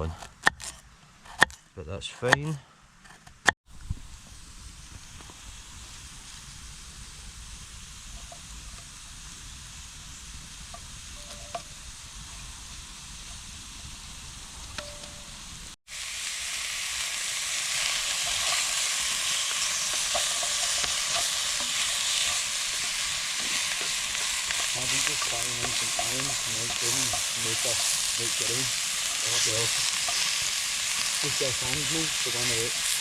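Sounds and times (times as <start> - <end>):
meat and onions sizzling: 3.8 - 33.0.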